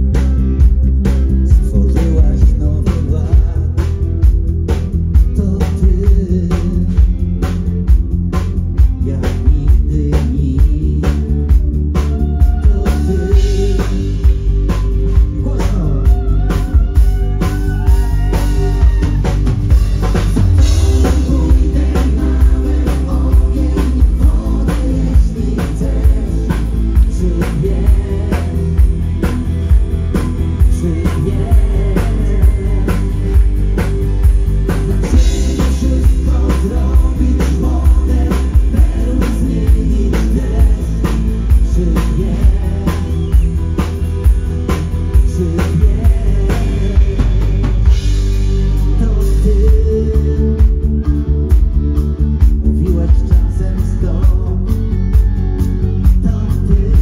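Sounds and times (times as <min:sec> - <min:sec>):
bass and electric guitar: 0:00.0 - 0:57.0
drum kit beat: 0:00.0 - 0:57.0
man singing: 0:01.4 - 0:04.2, 0:05.2 - 0:07.6, 0:08.9 - 0:19.5, 0:20.1 - 0:44.2, 0:45.0 - 0:51.1, 0:52.6 - 0:57.0.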